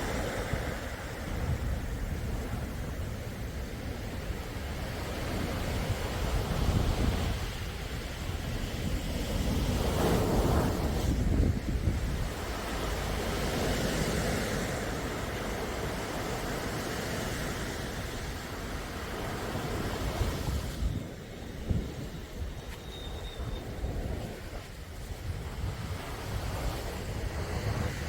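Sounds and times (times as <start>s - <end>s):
sea waves washing in: 0.0s - 28.0s.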